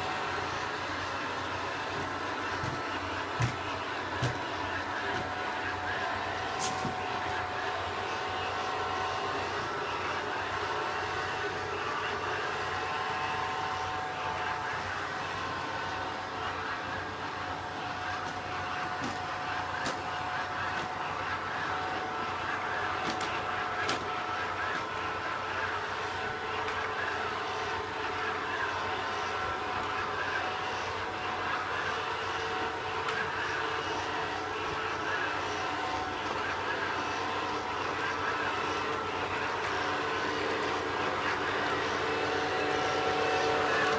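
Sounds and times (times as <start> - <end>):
robot vacuum motor whir: 0.0 - 43.9.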